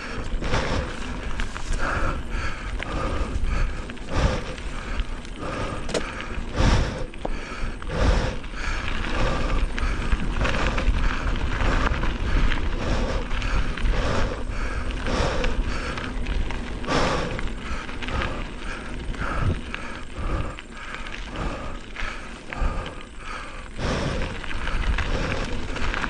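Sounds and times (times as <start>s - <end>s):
bicycle clicking and rattling: 0.0s - 26.0s.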